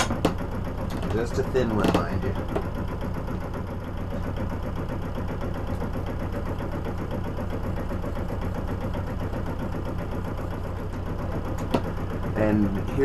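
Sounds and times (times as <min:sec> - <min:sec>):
diesel engine low drone: 0:00.0 - 0:13.0.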